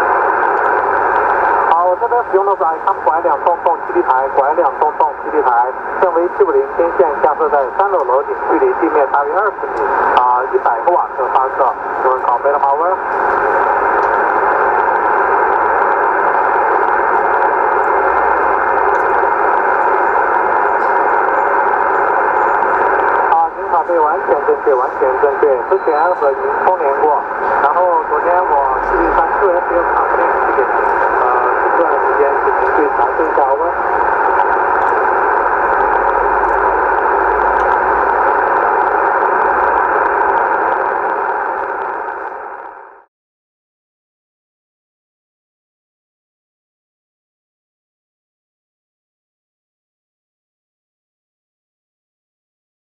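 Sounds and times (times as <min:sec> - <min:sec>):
shortwave radio hiss: 0:00.0 - 0:43.1.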